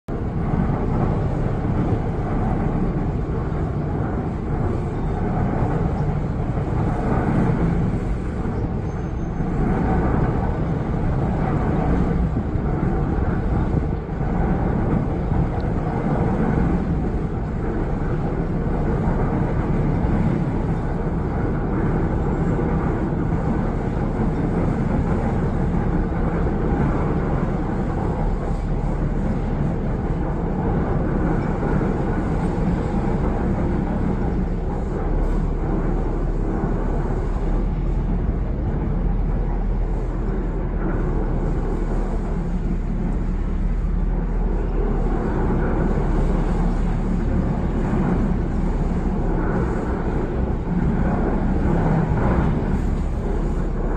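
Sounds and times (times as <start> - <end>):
boat motor rumbling: 0.1 - 53.9
rushing water: 0.1 - 53.9.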